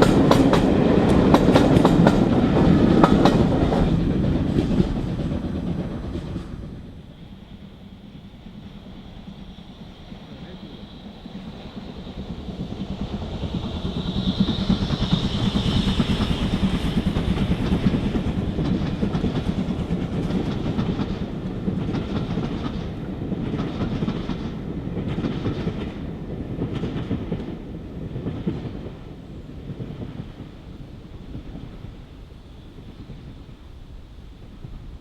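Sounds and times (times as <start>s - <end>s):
steam train passing: 0.0s - 35.0s.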